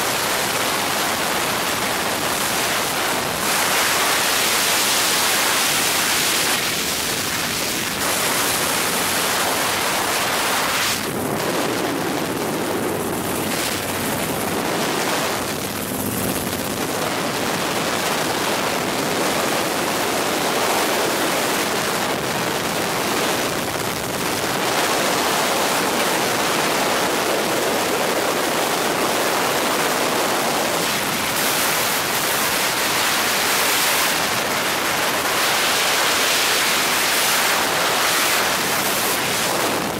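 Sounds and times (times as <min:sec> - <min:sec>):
helicopter cabin noise in flight: 0:00.0 - 0:39.9.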